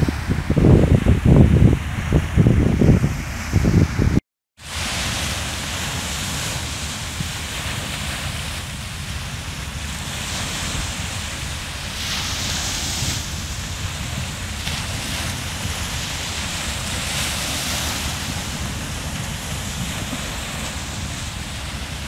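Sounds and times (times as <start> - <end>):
small waves washing onto beach: 0.0 - 22.0
wind rumbling on microphone: 0.0 - 22.0.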